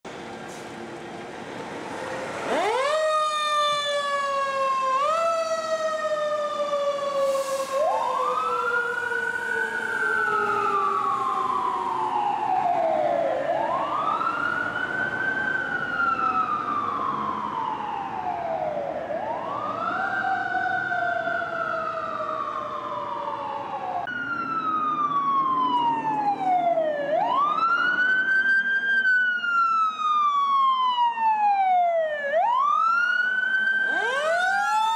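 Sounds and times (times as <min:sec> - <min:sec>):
fire engine siren: 0:00.2 - 0:34.9
second siren wailing: 0:02.4 - 0:34.9.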